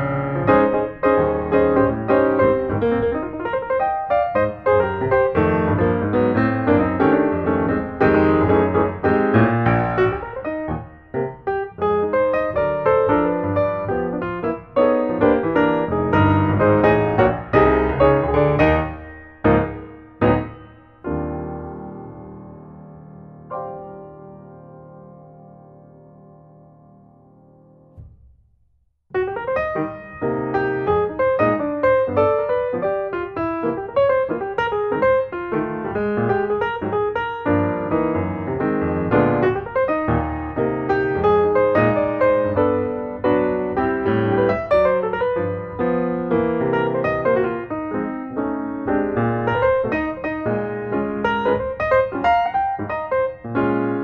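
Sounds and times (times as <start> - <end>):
lively piano music: 0.0 - 28.2, 29.1 - 54.0.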